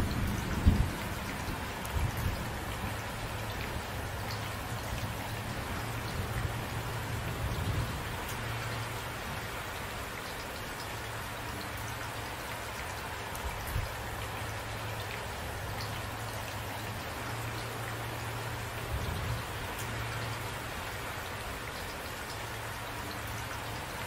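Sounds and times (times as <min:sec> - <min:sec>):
rain hissing: 0:00.0 - 0:24.0
raindrops ticking on a surface: 0:00.0 - 0:24.0.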